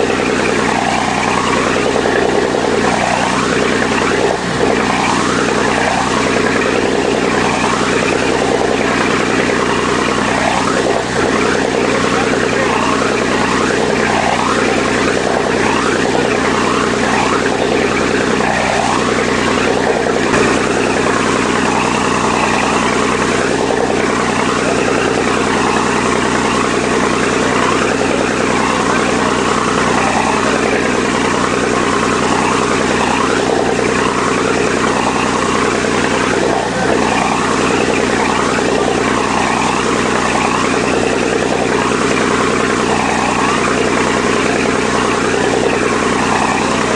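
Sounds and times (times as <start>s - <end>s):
boat engine running: 0.0s - 46.9s
churning water from wake: 0.0s - 46.9s.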